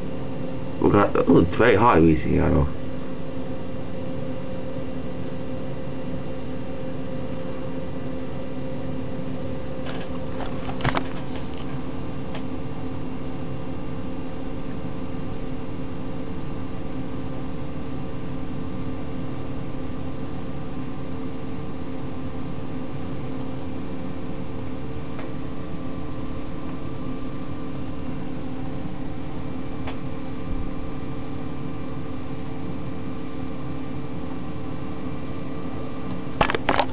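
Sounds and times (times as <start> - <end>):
steady mechanical hum: 0.0 - 36.9.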